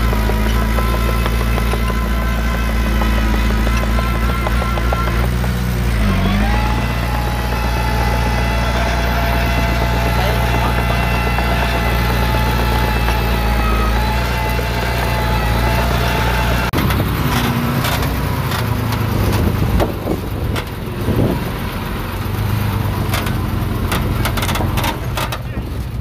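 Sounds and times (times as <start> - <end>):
diesel engine running: 0.0 - 26.0
engine knocks and clanks: 0.0 - 26.0.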